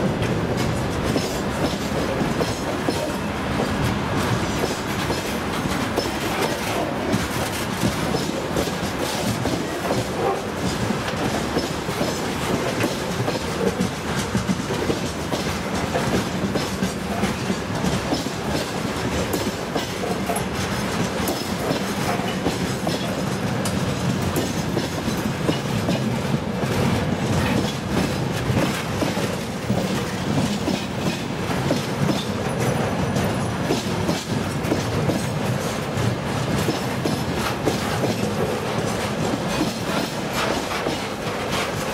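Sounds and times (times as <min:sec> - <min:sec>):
steel wheels rumbling on rail: 0:00.0 - 0:41.9
wheels clacking over rail joints: 0:00.0 - 0:41.9.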